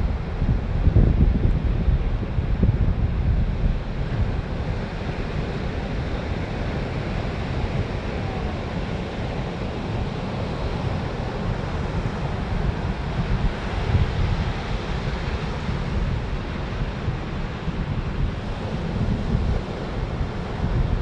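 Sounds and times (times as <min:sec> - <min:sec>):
wind buffeting microphone: 0:00.0 - 0:21.0
sea surf washing onto beach: 0:01.6 - 0:21.0.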